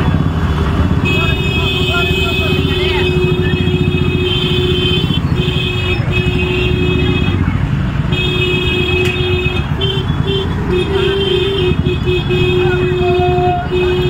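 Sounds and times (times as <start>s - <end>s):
motorcycle engines running: 0.0s - 14.0s
vehicle horn blasts: 1.0s - 7.4s, 8.0s - 14.0s.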